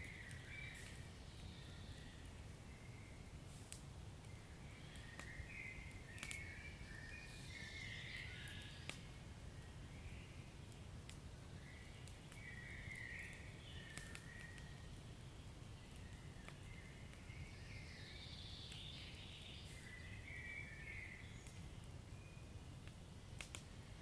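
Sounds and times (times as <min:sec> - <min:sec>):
wood fire crackling and popping: 0:00.0 - 0:07.5, 0:08.1 - 0:24.0
faint high-pitched hisses: 0:00.0 - 0:24.0.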